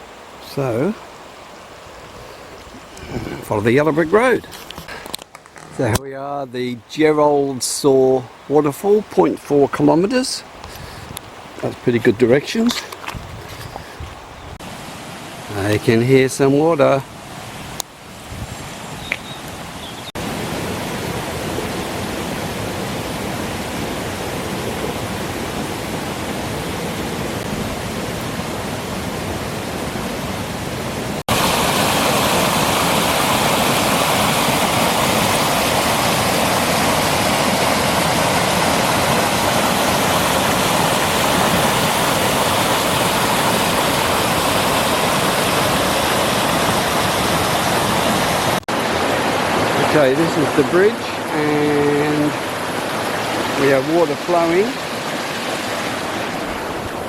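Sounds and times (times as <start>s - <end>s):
rushing stream water: 0.0s - 57.0s.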